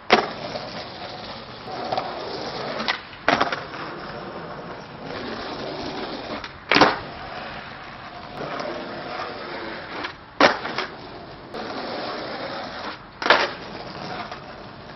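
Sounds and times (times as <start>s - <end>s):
skateboard clacking on ground: 0.0s - 14.9s
skateboard wheels rolling on asphalt: 0.0s - 14.9s.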